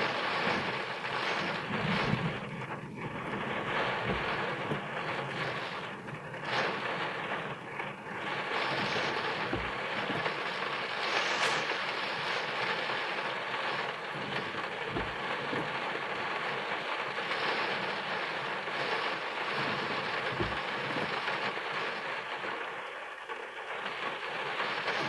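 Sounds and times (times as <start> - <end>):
rain on a car roof: 0.0 - 25.0.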